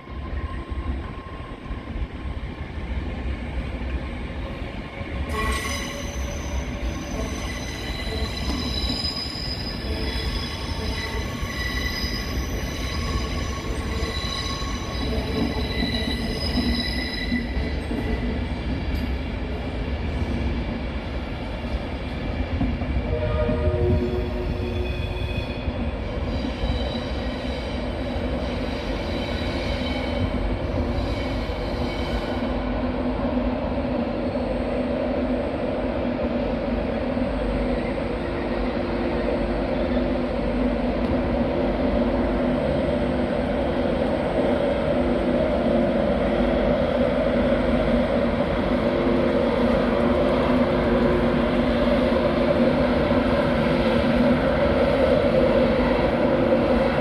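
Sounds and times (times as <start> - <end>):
train rumbling drone: 0.0 - 57.0.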